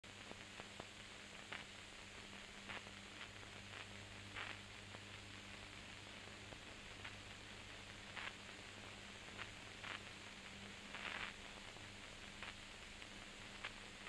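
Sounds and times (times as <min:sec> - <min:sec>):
faint steady hiss: 0:00.0 - 0:14.0
low electrical hum: 0:00.1 - 0:14.0
soft clicks and crackles: 0:00.1 - 0:14.0.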